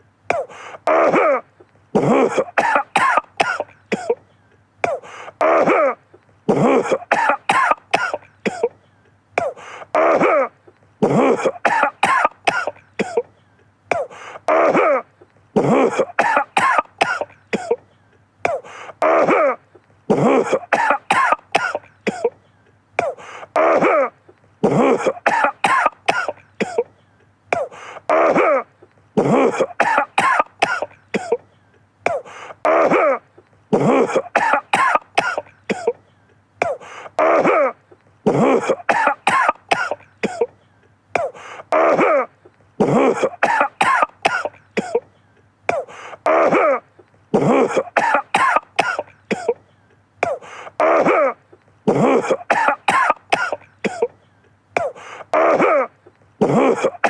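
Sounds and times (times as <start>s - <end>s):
man coughing: 0.3s - 8.8s, 9.4s - 17.9s, 18.5s - 40.6s, 41.2s - 54.2s, 54.8s - 57.0s.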